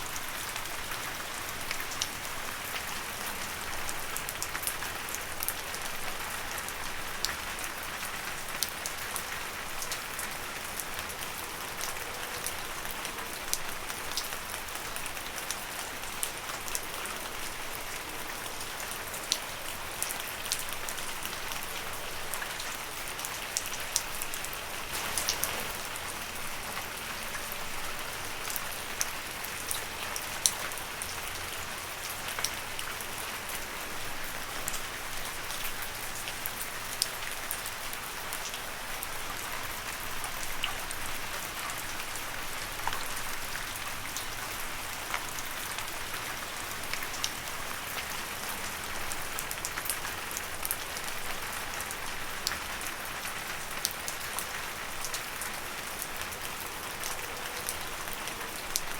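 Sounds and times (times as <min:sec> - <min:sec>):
rain falling on leaves: 0:00.0 - 0:58.9
sharp ticking raindrops: 0:00.0 - 0:58.9.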